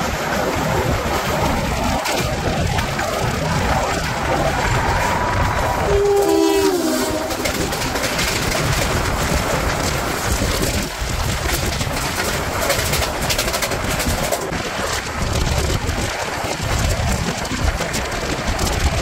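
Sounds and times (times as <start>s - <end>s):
passing train: 0.0s - 19.0s
rush of wind: 0.0s - 19.0s
train wheel and rail noise: 0.0s - 19.0s.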